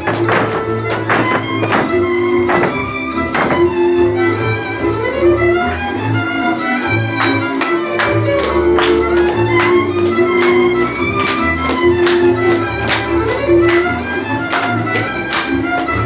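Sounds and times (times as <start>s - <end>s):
bass: 0.0s - 16.0s
fiddle melody: 0.0s - 16.0s
folk dance music: 0.0s - 16.0s.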